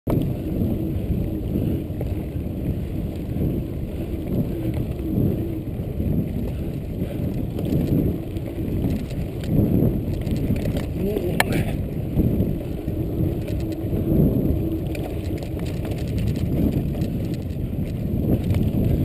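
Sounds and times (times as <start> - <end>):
bike tyres rumbling on dirt: 0.1 - 19.0
wind on microphone: 0.1 - 19.0.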